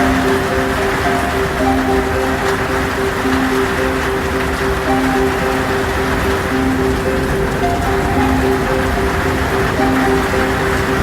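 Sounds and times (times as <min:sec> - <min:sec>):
heavy rain hiss: 0:00.0 - 0:11.0
soft music with pitched notes: 0:00.0 - 0:11.0.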